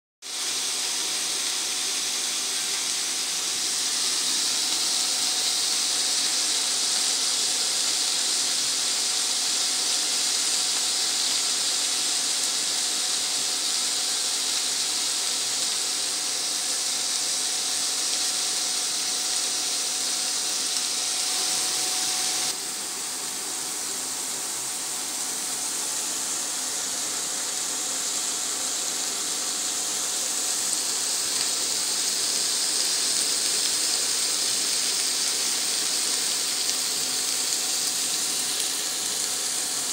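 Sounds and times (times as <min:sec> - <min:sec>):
shrimp sizzling in a frying pan: 0:00.2 - 0:39.9.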